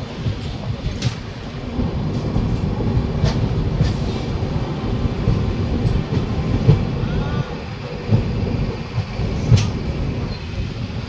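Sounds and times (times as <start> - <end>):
train coaches rumbling past: 0.0 - 11.0.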